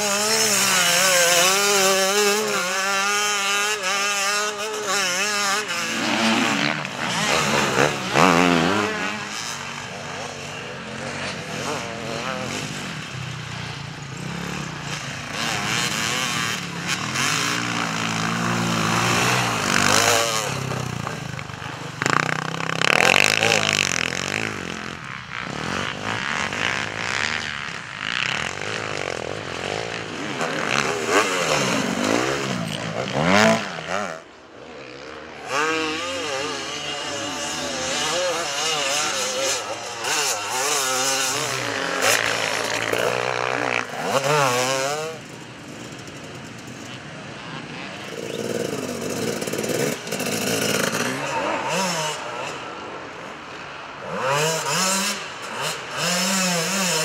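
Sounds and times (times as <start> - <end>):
motorcycle engines revving past: 0.0 - 57.0.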